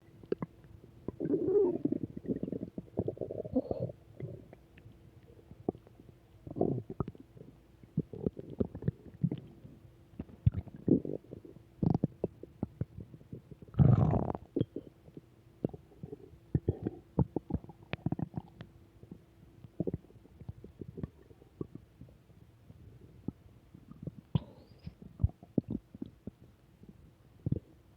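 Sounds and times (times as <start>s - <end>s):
stomach growling and gurgling: 0.2s - 27.8s.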